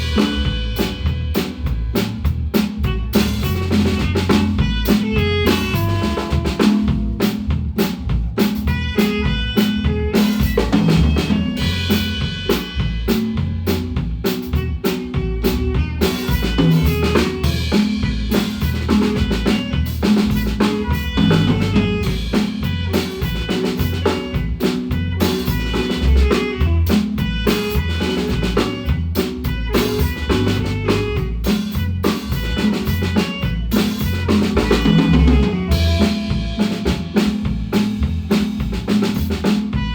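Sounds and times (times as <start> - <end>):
drum kit beat: 0.0 - 39.9
marimba band playing: 0.0 - 39.9.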